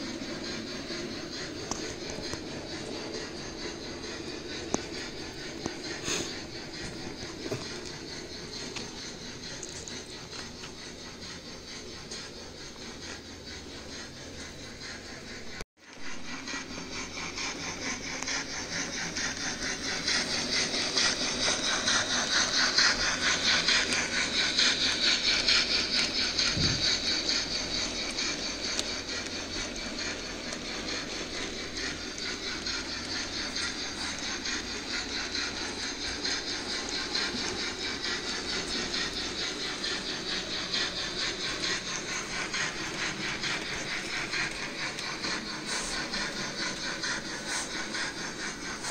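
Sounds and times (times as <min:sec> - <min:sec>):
model train rhythmic rattle: 0:00.0 - 0:48.9.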